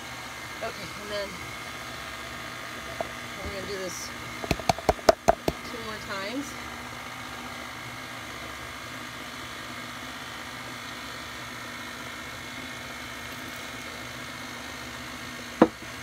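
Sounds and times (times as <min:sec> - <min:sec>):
stand mixer running: 0:00.0 - 0:16.0.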